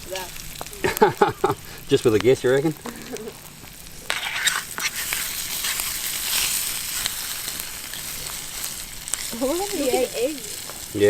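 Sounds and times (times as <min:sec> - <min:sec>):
eggs frying in oil: 0:00.0 - 0:11.0.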